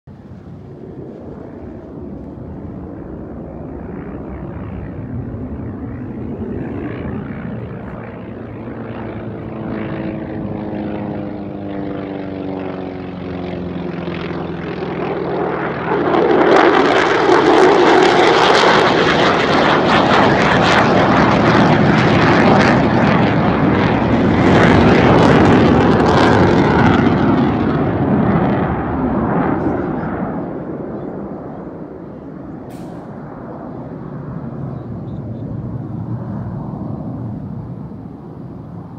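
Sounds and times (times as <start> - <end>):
fighter jet engine roaring past: 0.1 - 38.9.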